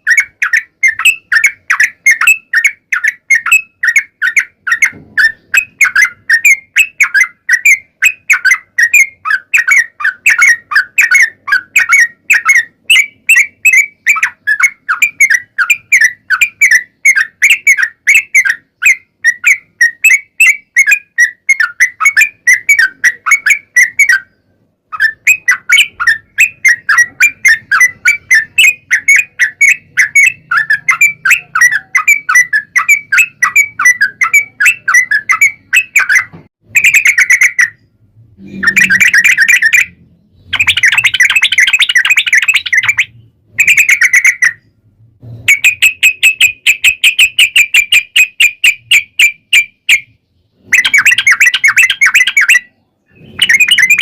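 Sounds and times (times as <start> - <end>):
bird singing rapid notes: 0.0 - 44.8, 45.4 - 54.0.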